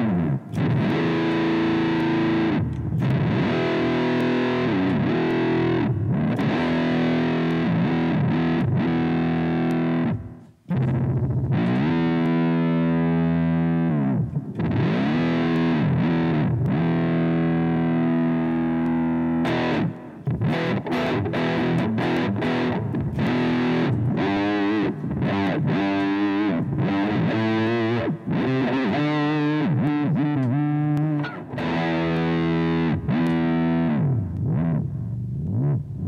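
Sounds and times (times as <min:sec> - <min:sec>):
distorted electric guitar dive-bombs: 0:00.0 - 0:36.0.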